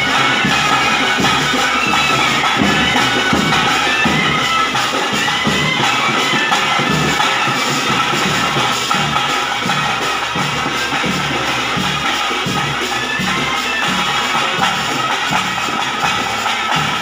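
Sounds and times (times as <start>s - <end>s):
barrel drums beaten: 0.0s - 17.0s
reedy wind instrument melody: 0.0s - 17.0s.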